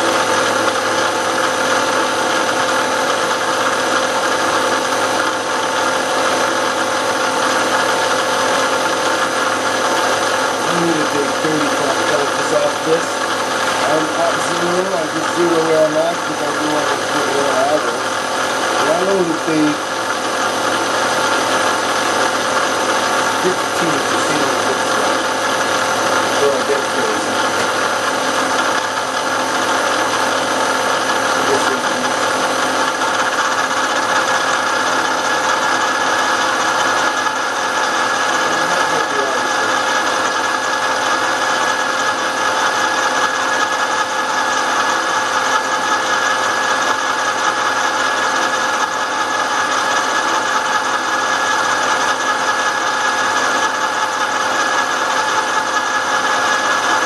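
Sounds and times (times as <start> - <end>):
machine tool motor running: 0.0 - 57.0.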